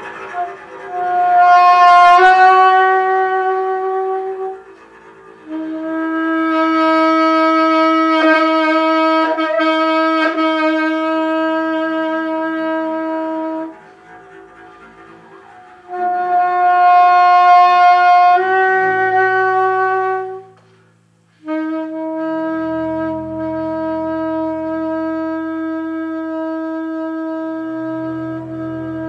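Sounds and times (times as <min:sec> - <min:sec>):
saxophone long notes: 0:00.0 - 0:29.0.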